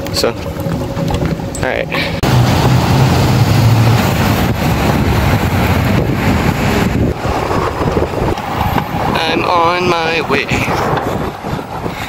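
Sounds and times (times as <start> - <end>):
scooter wheels rolling on concrete: 0.0 - 3.1, 3.8 - 12.0
wind buffeting microphone: 0.0 - 12.0.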